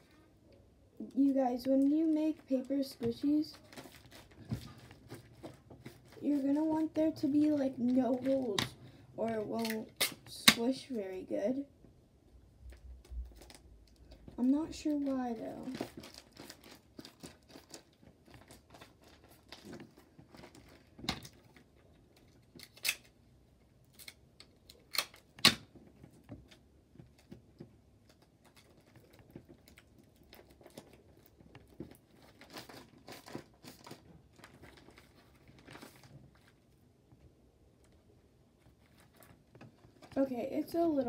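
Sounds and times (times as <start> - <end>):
paper and plastic crinkling: 1.1 - 10.2, 12.6 - 23.2, 23.9 - 36.8, 37.8 - 41.0.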